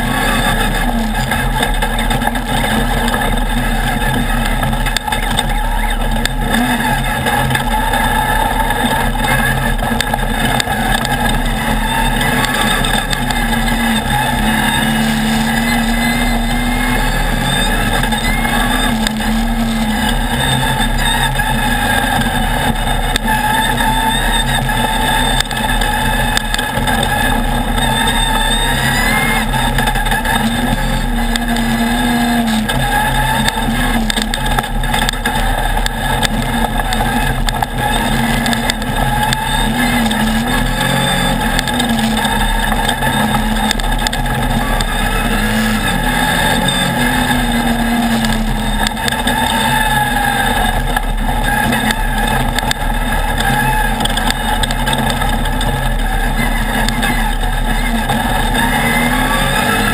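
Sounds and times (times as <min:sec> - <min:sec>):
race buggy engine revving: 0:00.0 - 0:59.9.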